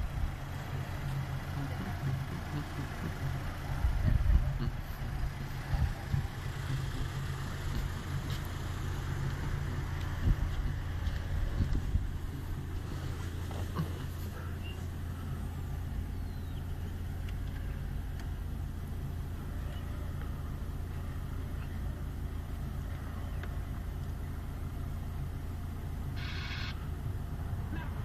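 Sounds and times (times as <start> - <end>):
car engine low rumble: 0.0 - 28.0.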